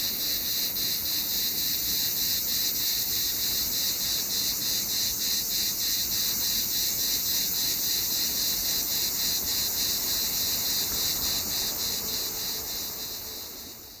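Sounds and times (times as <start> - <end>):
cicadas singing: 0.0 - 14.0.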